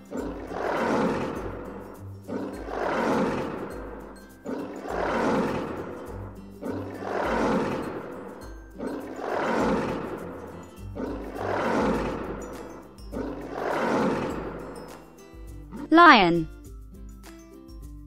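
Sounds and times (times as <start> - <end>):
lion roaring: 0.0 - 14.9.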